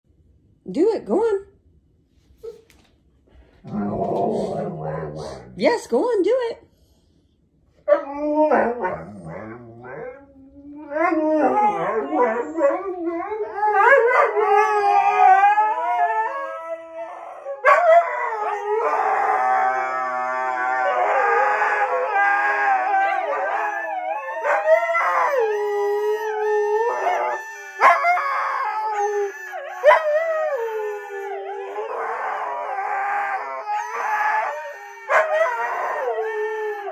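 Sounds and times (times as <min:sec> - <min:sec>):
huskies howling: 0:03.6 - 0:05.5, 0:07.9 - 0:36.9.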